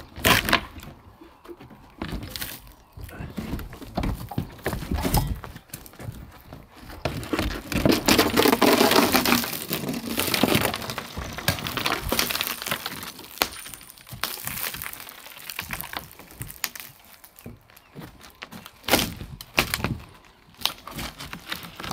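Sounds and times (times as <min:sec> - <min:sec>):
plywood cracking and splintering: 0:00.0 - 0:21.9
wood scraping: 0:00.0 - 0:21.9.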